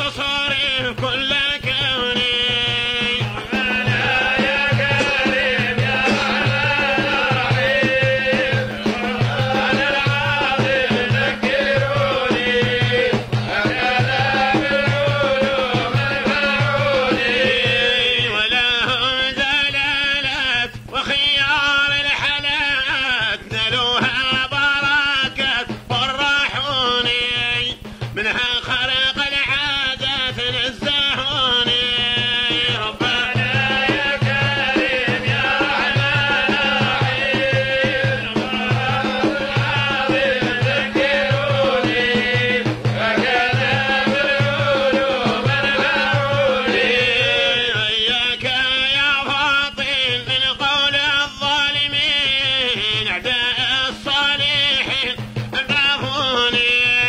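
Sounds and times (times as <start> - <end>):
man singing unaccompanied: 0.0 - 57.0.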